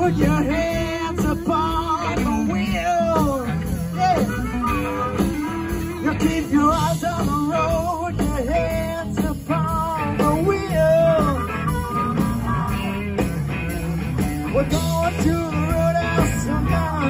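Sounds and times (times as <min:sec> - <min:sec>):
harmonica lead notes: 0:00.0 - 0:17.0
rock band playing: 0:00.0 - 0:17.0.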